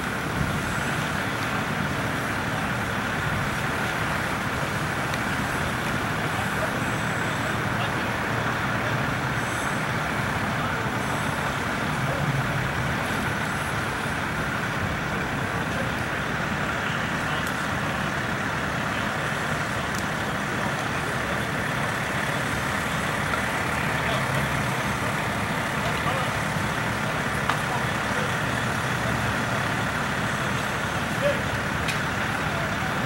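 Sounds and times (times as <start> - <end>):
continuous rushing noise: 0.0 - 33.0
diesel trucks idling: 0.0 - 33.0.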